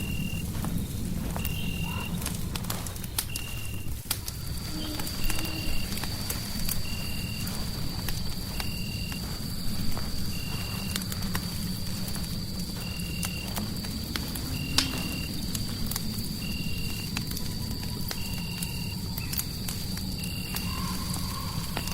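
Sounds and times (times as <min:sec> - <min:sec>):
fire crackling and popping: 0:00.0 - 0:21.9.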